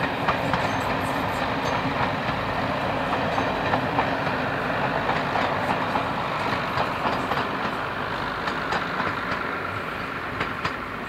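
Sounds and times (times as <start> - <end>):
diesel train engine and wheels: 0.0 - 11.0.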